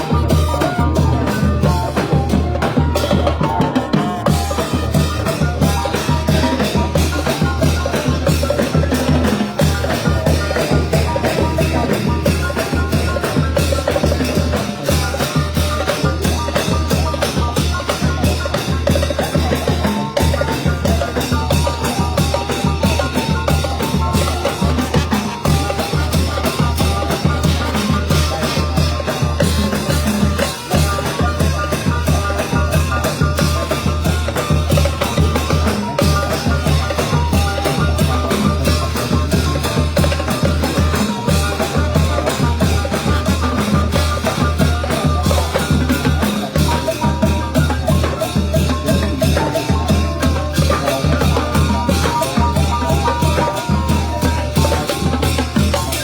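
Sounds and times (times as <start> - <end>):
brass band playing: 0.0 - 56.0
drums beating: 0.0 - 56.0.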